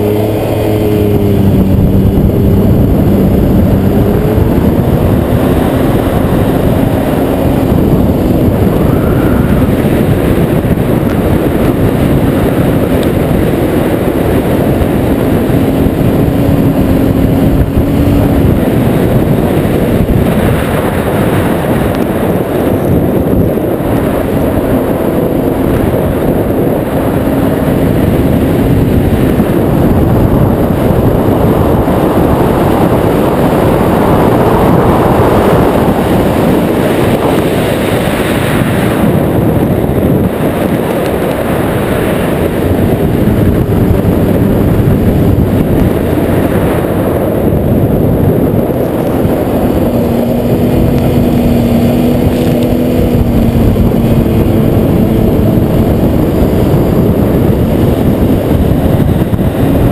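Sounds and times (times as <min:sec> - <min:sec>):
race car engine revving: 0:00.0 - 0:59.9
wind rumble on microphone: 0:00.0 - 0:59.9.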